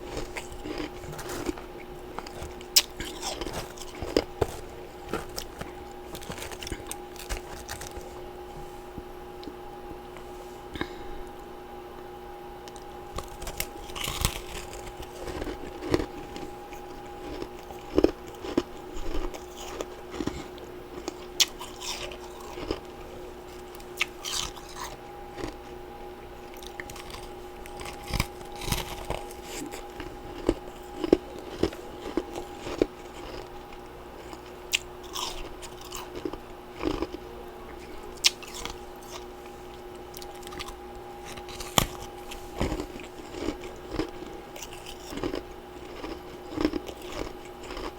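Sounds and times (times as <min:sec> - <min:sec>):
chewing ice crunches: 0:00.0 - 0:08.3, 0:12.6 - 0:25.8, 0:26.4 - 0:47.9
faint steady hum: 0:00.0 - 0:47.9.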